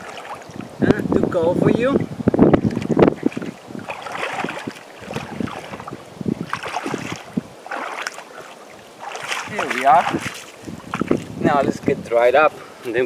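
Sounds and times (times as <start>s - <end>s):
water sloshing and splashing: 0.0s - 1.1s, 1.7s - 12.0s
wind buffeting microphone: 0.0s - 13.0s.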